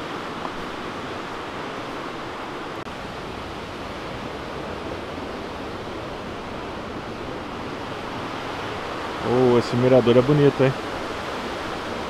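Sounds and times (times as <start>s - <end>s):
waterfall rushing: 0.0s - 3.3s, 4.0s - 12.0s.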